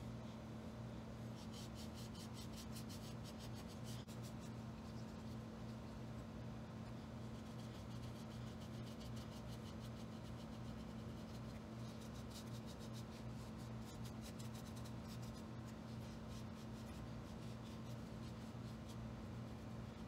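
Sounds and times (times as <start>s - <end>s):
steady low hum: 0.0s - 20.0s
scratchy brush strokes: 1.2s - 6.0s, 6.8s - 20.0s.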